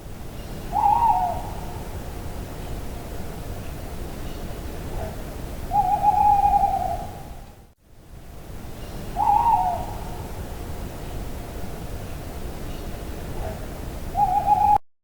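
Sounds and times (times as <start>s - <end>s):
steady background hiss: 0.0s - 14.8s.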